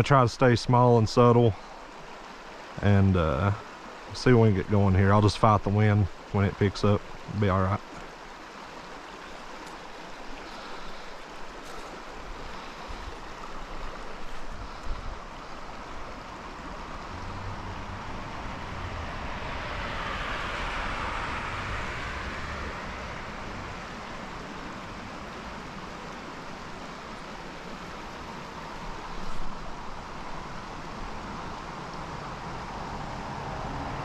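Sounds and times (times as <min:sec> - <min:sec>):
stream water running: 0:00.0 - 0:34.0.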